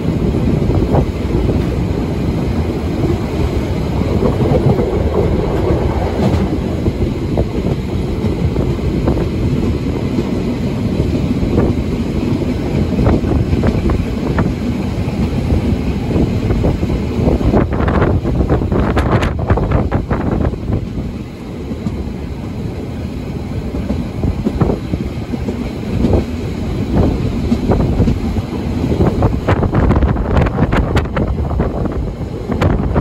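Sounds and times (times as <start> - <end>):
rail joint clicks: 0.0 - 33.0
train wheels rumbling on rails: 0.0 - 33.0.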